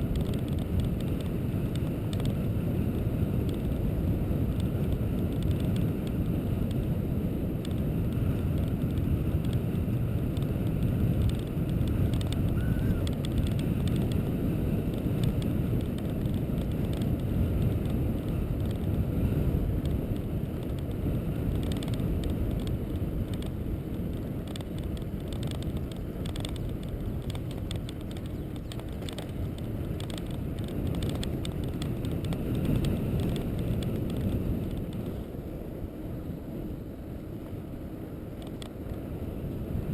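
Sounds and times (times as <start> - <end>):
small clicks and rattles: 0.0 - 2.4, 4.5 - 6.9, 7.6 - 19.0, 19.8 - 35.2, 38.4 - 39.0
wind buffeting microphone: 0.0 - 39.9.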